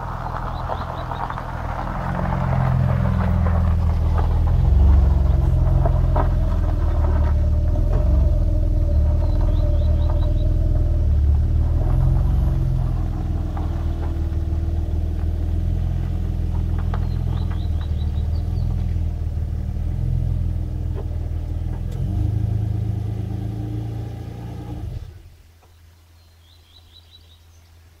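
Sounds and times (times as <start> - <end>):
car engine running at low revs: 0.0 - 27.6.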